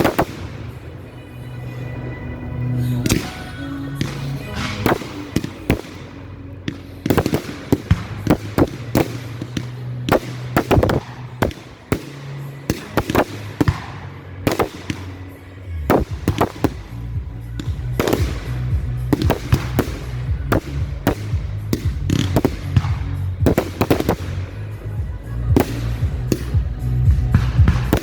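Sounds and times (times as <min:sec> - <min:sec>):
fireworks bangs and cracks: 0:00.0 - 0:01.6, 0:03.0 - 0:28.0
background music: 0:00.0 - 0:28.0.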